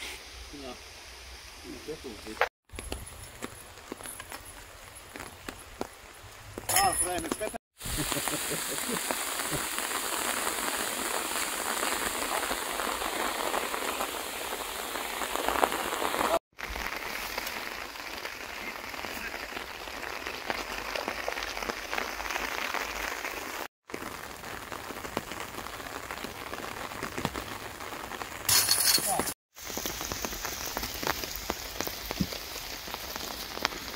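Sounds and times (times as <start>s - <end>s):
rain on leaves and ground: 0.0s - 33.9s.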